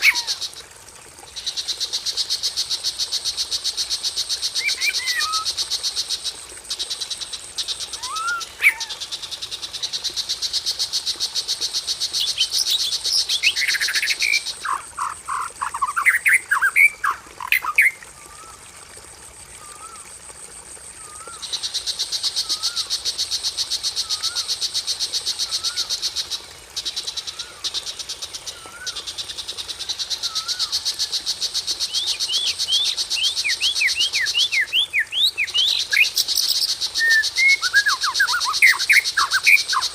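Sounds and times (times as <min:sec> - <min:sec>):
songbird calls: 0:00.0 - 0:00.5, 0:03.7 - 0:18.6, 0:19.6 - 0:20.1, 0:21.0 - 0:39.9.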